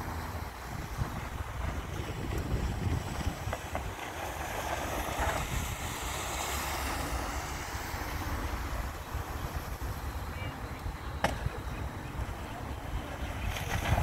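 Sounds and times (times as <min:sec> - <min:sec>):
wakeboard spray hissing: 0:00.0 - 0:14.0
wind buffeting microphone: 0:00.0 - 0:14.0.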